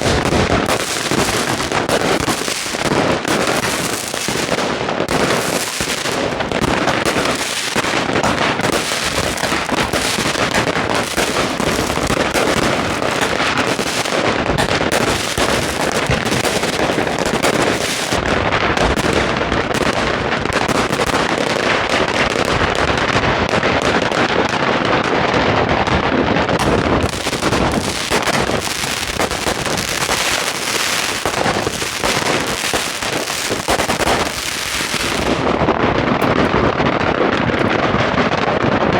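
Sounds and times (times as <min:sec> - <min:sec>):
fireworks and firecrackers crackling: 0:00.0 - 0:38.9.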